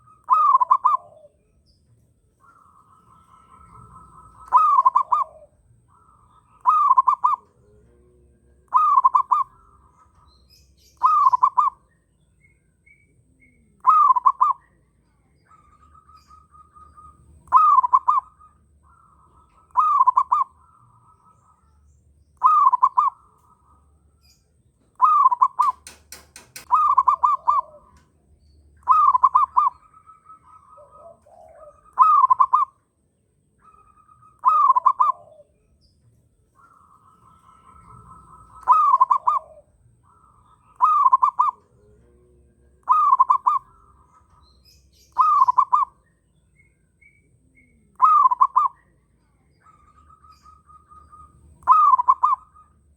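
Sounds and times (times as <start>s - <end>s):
dove cooing: 0.0s - 52.9s
faint bird calls: 0.0s - 52.9s.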